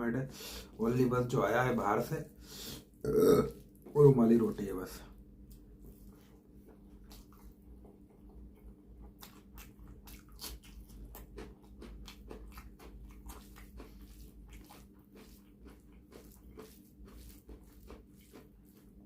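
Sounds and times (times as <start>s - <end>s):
person chewing with wet clicks: 3.5s - 19.0s.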